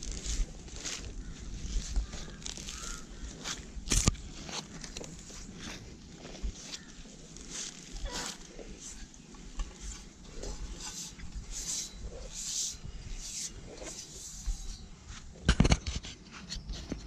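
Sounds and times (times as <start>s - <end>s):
rustling and scraping on tree trunk: 0.0s - 17.0s.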